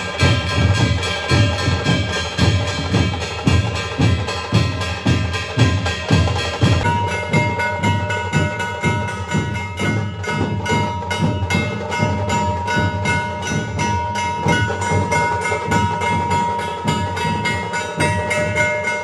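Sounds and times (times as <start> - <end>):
heavy drum beat: 0.0 - 19.0.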